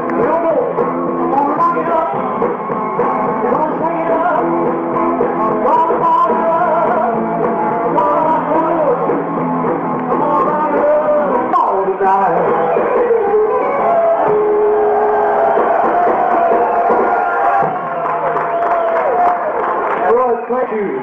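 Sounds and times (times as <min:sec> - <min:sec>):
muffled rock and roll band: 0:00.0 - 0:21.0.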